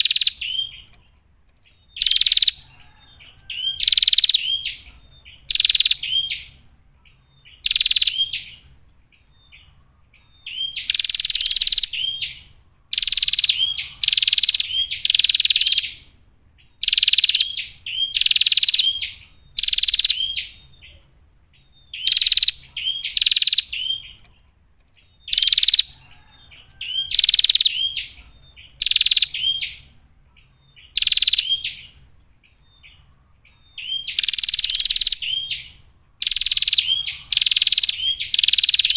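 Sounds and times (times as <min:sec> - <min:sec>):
bird buzzy trilled calls: 0:00.0 - 0:01.1, 0:01.7 - 0:24.4, 0:25.0 - 0:38.9.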